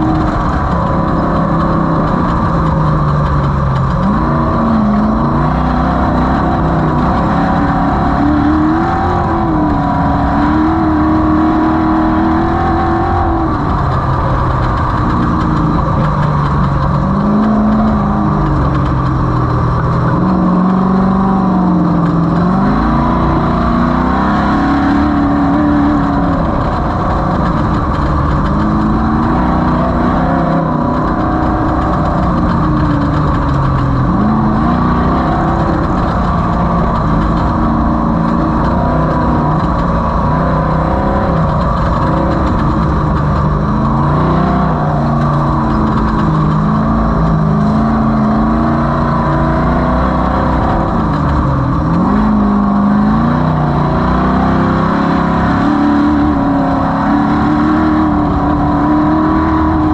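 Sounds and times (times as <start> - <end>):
race vehicle engine revving: 0.0 - 59.9.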